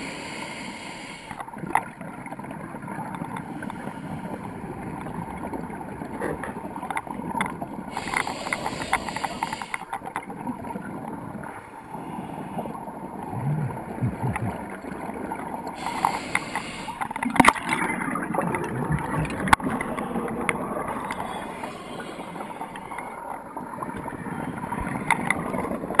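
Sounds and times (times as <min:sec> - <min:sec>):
underwater bubbles gurgling: 0:00.0 - 0:26.0.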